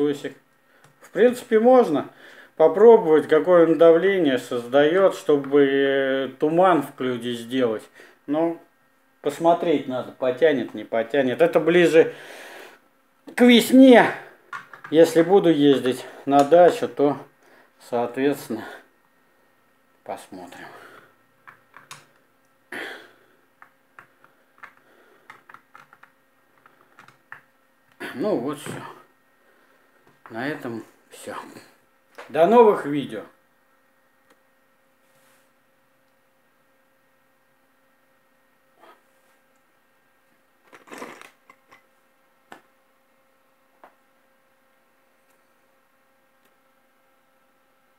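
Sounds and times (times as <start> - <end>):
faint electrical hum: 0.0 - 47.9.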